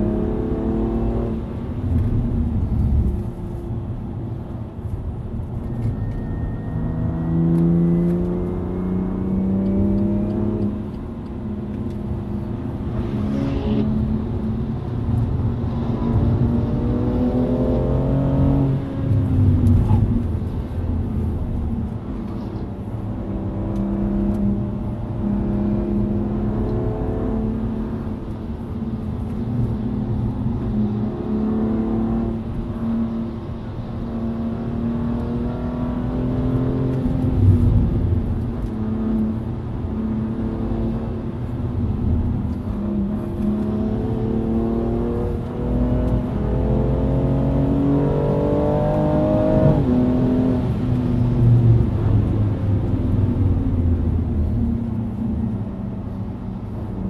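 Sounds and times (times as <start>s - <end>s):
car engine accelerating: 5.7s - 57.0s.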